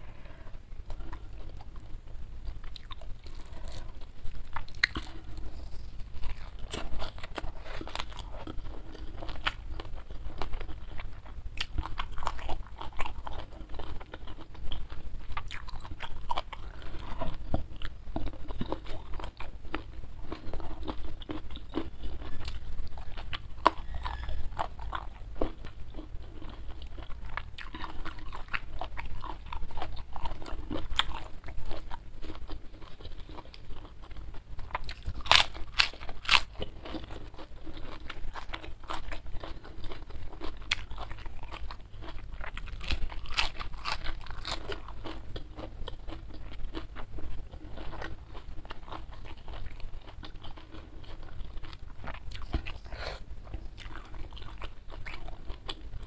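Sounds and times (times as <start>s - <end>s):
food crunching: 0.0s - 56.0s
person chewing food: 0.0s - 56.0s.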